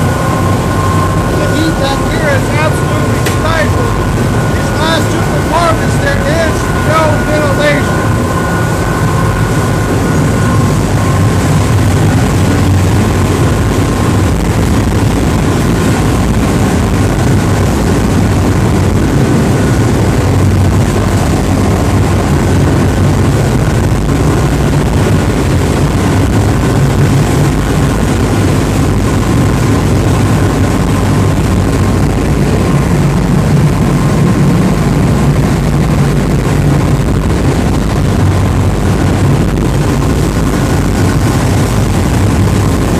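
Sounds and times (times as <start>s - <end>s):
deep diesel engine drone: 0.0s - 42.9s
faint steady whine: 0.0s - 42.9s.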